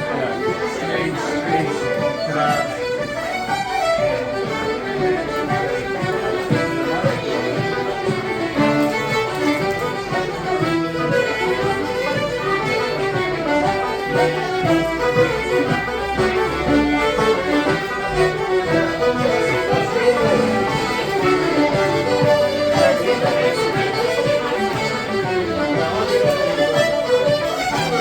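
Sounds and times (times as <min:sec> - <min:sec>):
fiddle playing quick notes: 0:00.0 - 0:28.0.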